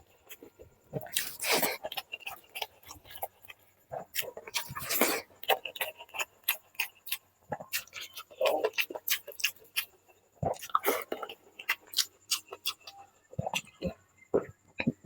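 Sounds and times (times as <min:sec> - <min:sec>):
wet chewing and mouth smacking: 0:00.1 - 0:15.0.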